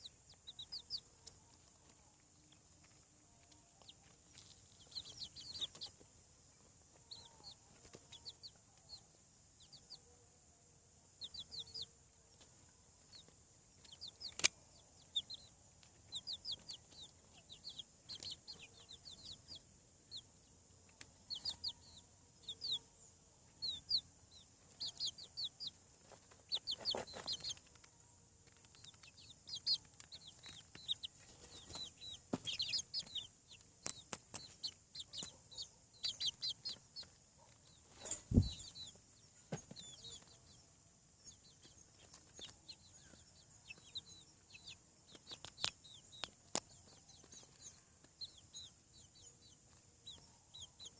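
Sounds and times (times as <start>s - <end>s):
young chickens peeping: 0.0s - 10.1s, 11.0s - 50.9s.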